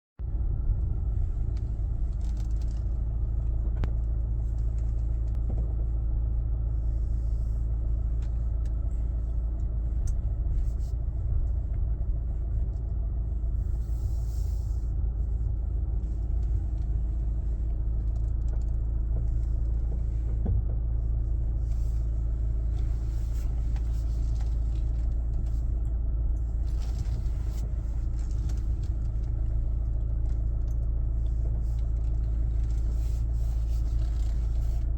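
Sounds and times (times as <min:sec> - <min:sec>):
car engine and road rumble: 0:00.2 - 0:34.9.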